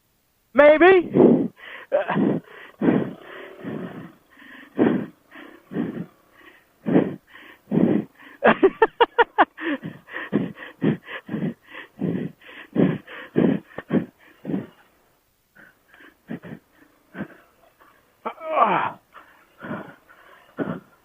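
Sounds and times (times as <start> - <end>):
rapid voiced huffs: 0.6 - 8.6, 9.5 - 21.0
person breathing hard: 1.1 - 21.0.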